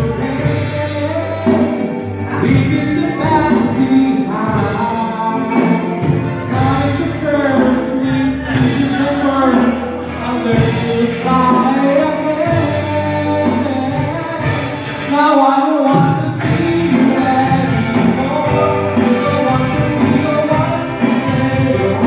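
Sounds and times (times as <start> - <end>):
live band playing: 0.0 - 22.0
man singing into a microphone: 0.0 - 22.0.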